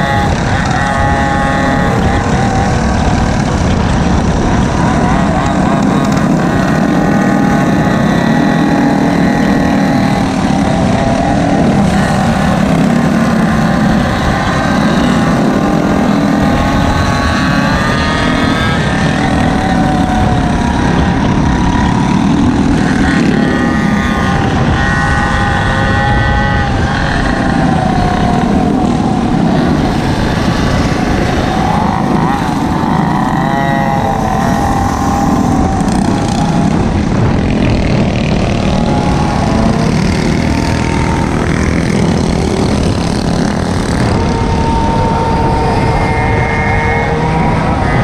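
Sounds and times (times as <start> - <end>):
constant low rush: 0.0 - 48.0
small scooter engines running: 0.0 - 48.0.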